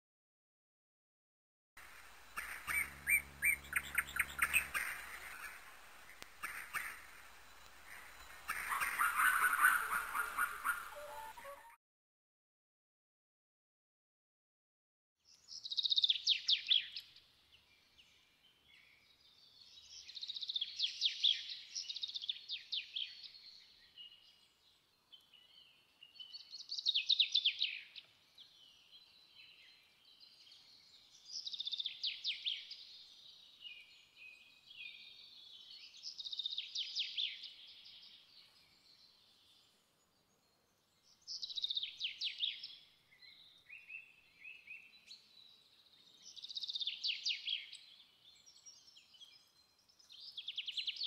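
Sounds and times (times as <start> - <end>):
songbird trills and chirps: 2.1 - 11.8, 15.3 - 51.0.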